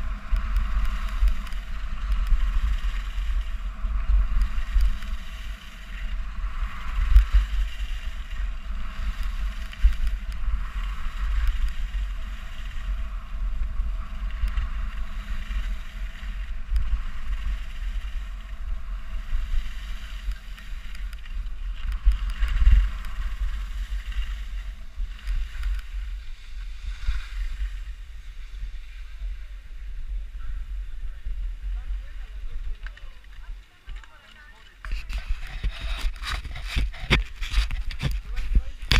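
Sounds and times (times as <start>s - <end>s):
skis scraping on snow: 0.0s - 38.9s
wind buffeting microphone: 0.0s - 38.9s.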